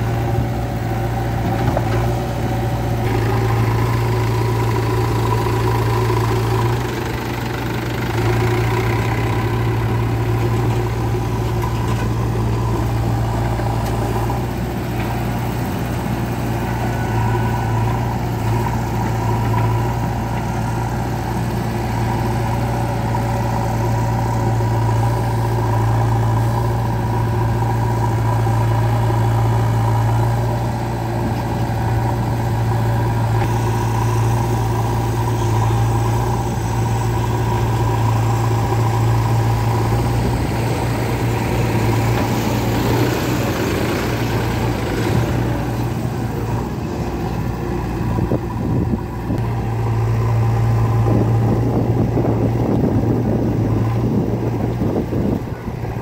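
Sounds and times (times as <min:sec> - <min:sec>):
diesel engine drone: 0:00.0 - 0:56.0.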